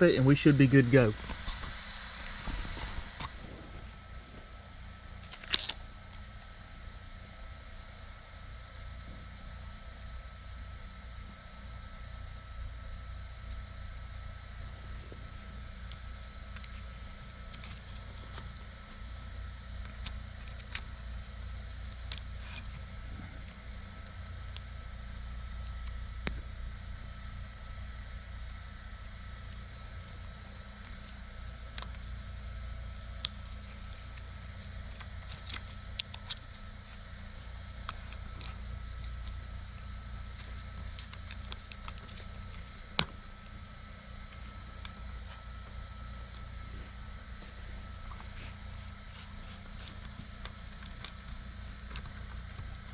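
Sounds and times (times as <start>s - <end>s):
low hum: 0.0s - 52.9s.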